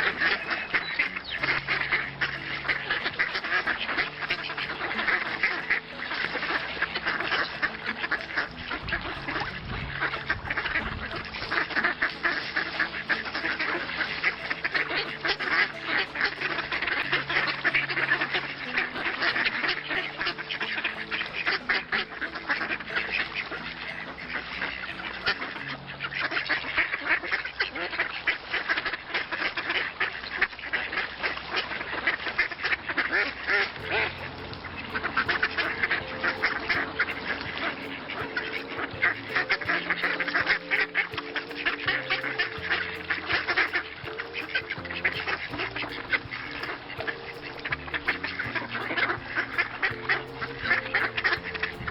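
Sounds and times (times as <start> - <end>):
ducks quacking: 0.0 - 51.9.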